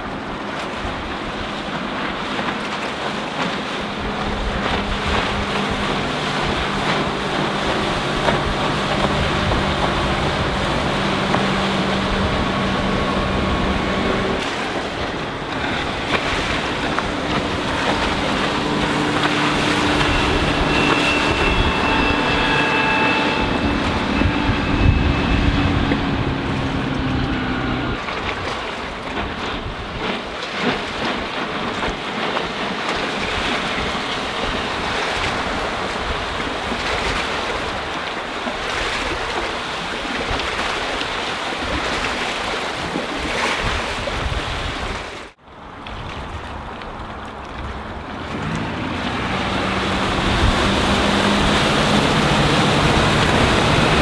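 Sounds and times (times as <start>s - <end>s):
motorboat engine humming: 0.0s - 54.0s
rushing water: 0.0s - 54.0s
wind on microphone: 3.4s - 54.0s.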